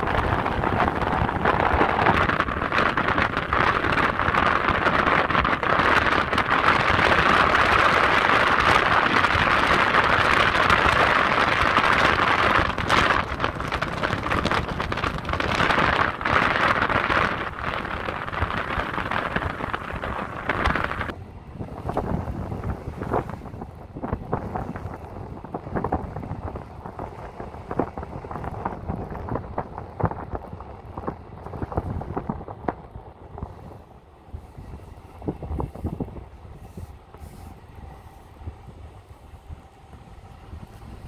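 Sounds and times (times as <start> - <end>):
car road and wind noise: 0.0 - 41.0.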